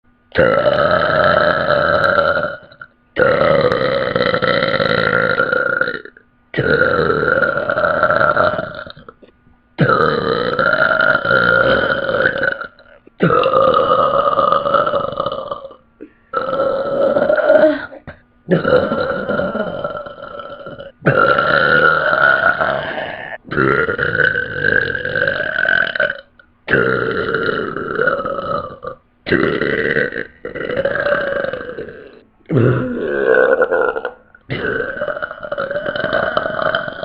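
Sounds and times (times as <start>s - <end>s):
girl burping loudly: 0.3s - 9.2s, 9.8s - 37.0s.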